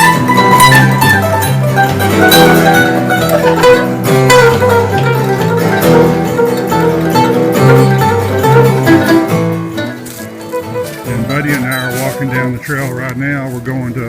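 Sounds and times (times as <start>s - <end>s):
mandolin: 0.0s - 14.0s
picked guitar: 0.0s - 14.0s
walking bass line: 0.0s - 14.0s.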